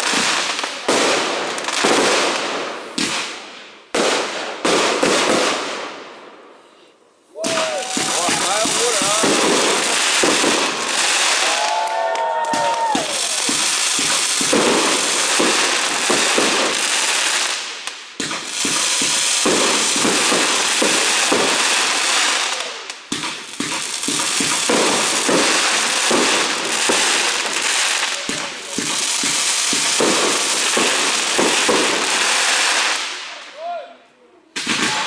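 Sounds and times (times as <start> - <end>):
fireworks popping and banging: 0.0 - 5.9, 7.4 - 33.4, 34.6 - 35.0.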